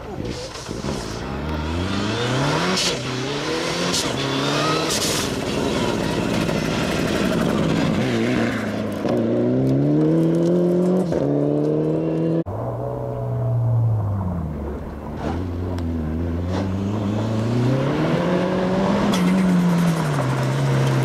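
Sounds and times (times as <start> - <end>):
car engine revving: 0.5 - 21.0.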